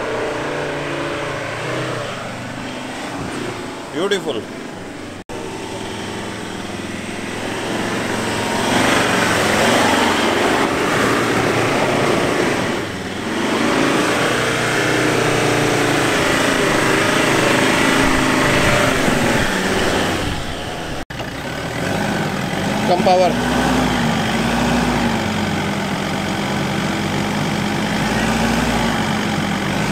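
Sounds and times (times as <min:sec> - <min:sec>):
suv engine revving: 0:00.0 - 0:29.9.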